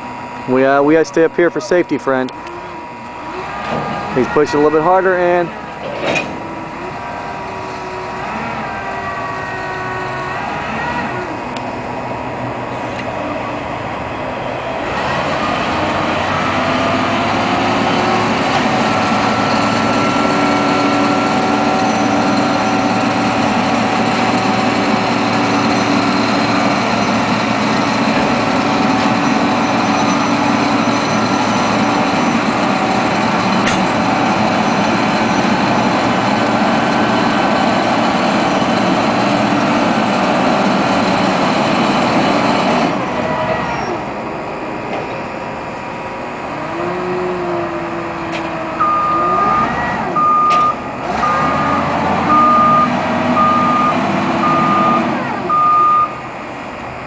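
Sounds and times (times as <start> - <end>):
crane engine running hard: 0.0 - 57.0.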